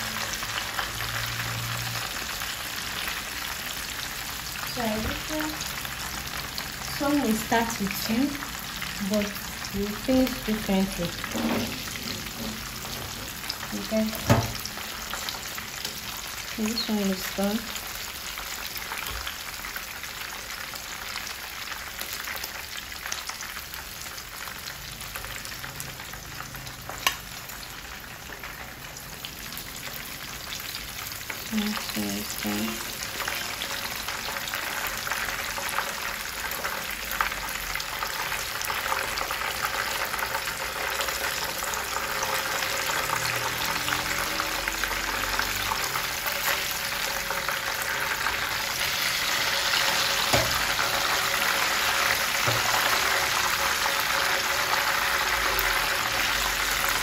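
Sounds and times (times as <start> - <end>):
fish deep-frying in hot oil: 0.0 - 57.0.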